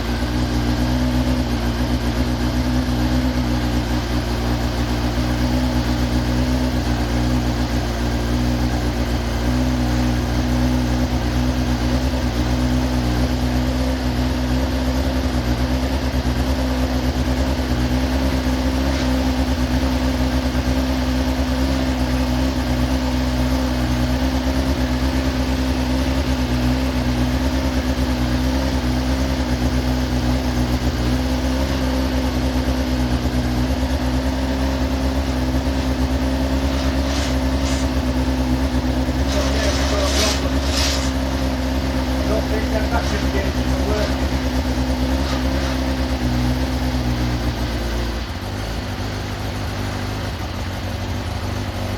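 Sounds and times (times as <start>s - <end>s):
engine running steadily: 0.0s - 51.9s.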